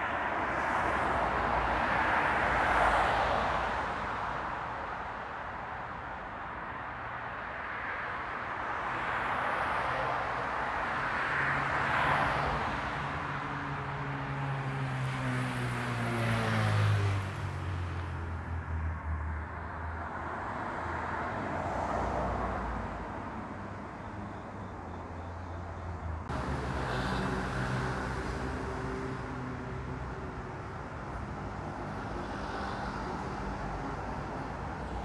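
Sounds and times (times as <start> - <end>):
cars passing: 0.0 - 4.6, 9.0 - 35.0.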